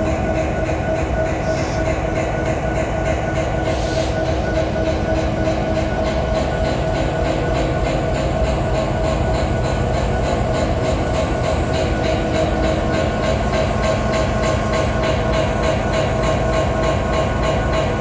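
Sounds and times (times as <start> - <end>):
locomotive engine drone and whine: 0.0 - 18.0
rhythmic knocking: 0.0 - 18.0.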